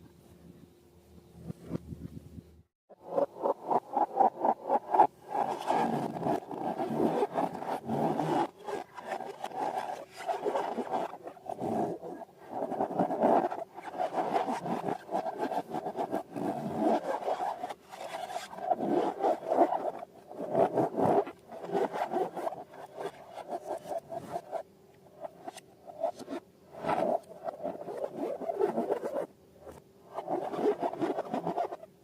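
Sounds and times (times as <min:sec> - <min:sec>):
slime and balloons rubbing: 0:03.0 - 0:31.9.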